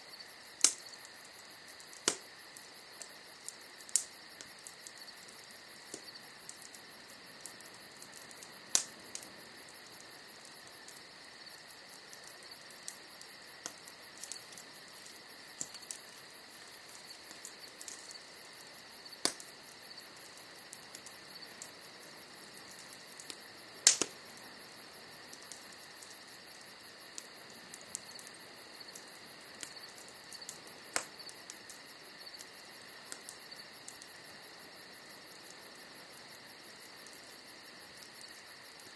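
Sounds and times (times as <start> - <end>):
insect chirring: 0.0 - 38.9
wood fire crackling and popping: 0.0 - 38.9.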